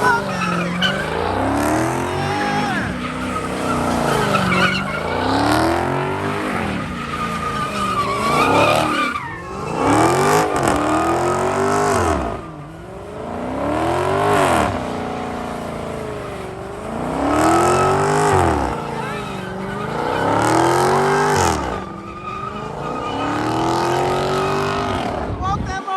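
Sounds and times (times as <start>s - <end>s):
tyres squealing and skidding: 0.0s - 25.3s
car engine revving: 0.0s - 25.4s.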